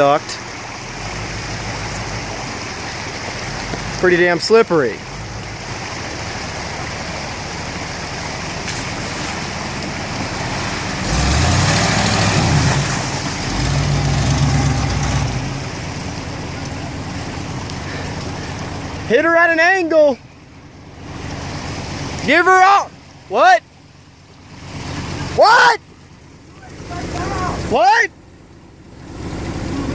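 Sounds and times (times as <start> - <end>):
creek rushing: 0.0 - 29.9
engine idling and revving: 0.0 - 29.9.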